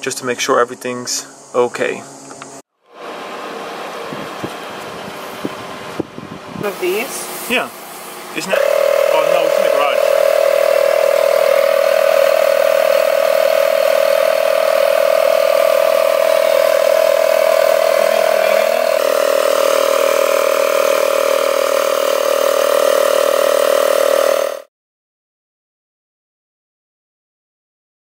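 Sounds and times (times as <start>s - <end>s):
tire inflator compressor buzzing: 0.0s - 24.7s.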